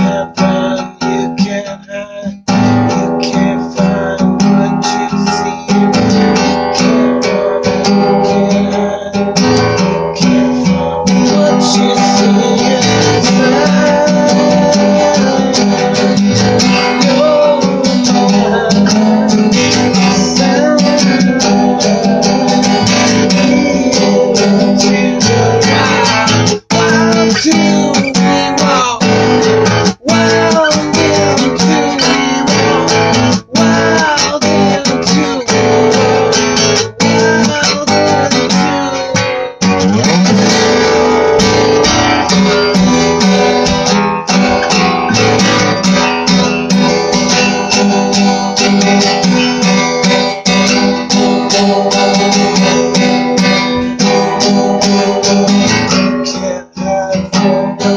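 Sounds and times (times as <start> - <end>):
acoustic guitar strumming: 0.0 - 57.9.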